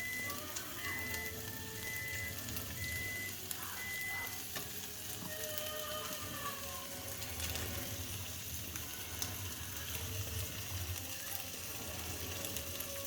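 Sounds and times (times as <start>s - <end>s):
rice sizzling in oil: 0.0s - 13.0s.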